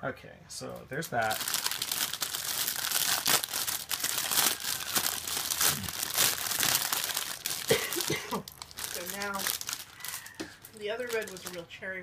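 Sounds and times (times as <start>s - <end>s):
plastic bags crinkling: 1.0s - 11.7s.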